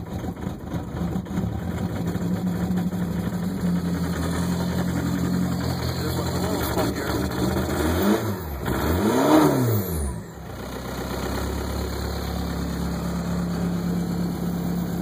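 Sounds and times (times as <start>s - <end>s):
diesel engine revving and idling: 0.0s - 15.0s.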